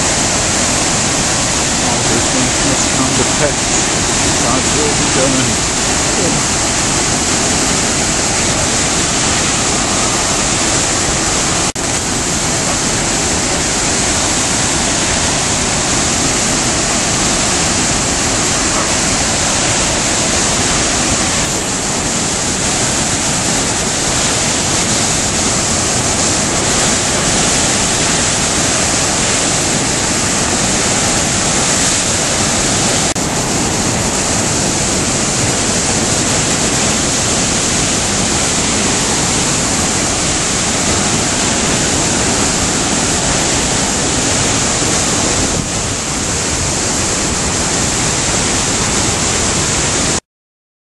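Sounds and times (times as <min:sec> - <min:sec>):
river water rushing: 0:00.0 - 0:50.2.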